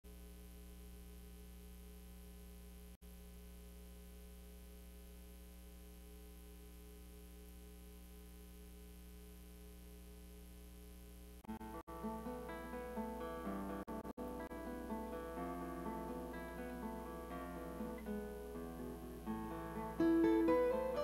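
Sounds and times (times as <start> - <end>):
faint mains hum with hiss: 0.0 - 21.0.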